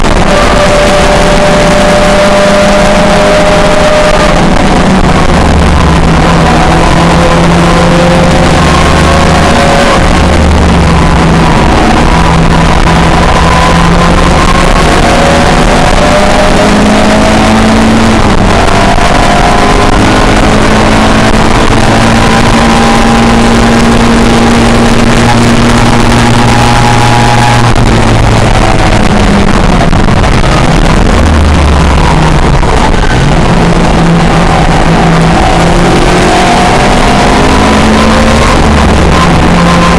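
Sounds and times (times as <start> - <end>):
loud constant rushing noise: 0.0 - 39.9
racing car engines accelerating: 0.0 - 39.9.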